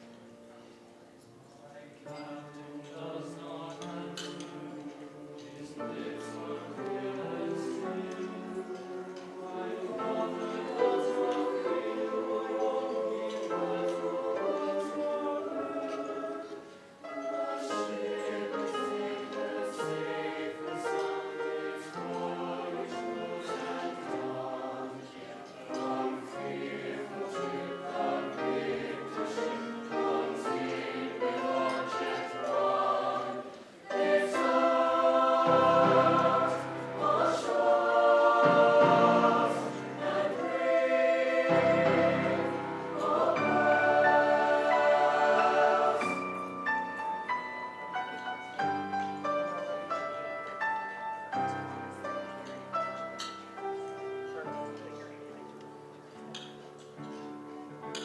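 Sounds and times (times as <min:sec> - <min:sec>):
choir singing in parts: 0:01.5 - 0:53.7.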